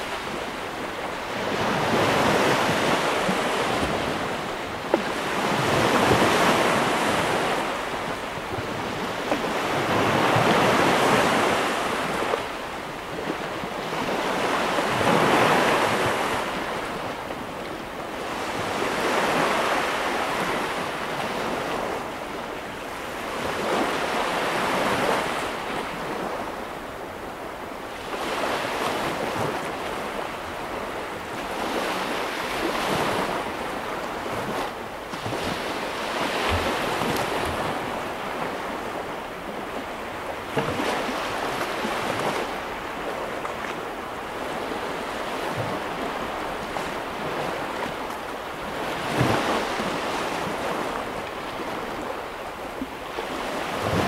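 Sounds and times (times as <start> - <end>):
sea waves breaking on a beach: 0.0 - 54.0.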